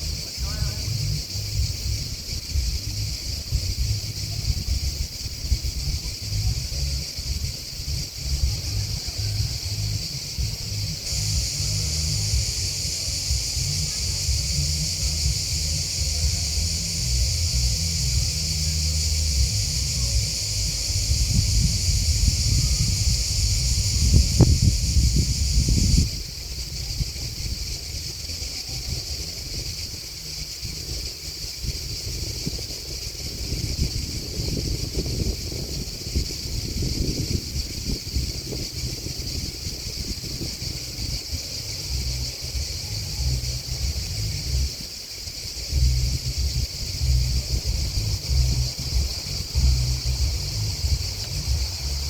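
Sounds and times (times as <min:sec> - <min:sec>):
grasshoppers and crickets chirring: 0:00.0 - 0:52.0
wind rumble on microphone: 0:00.0 - 0:52.0.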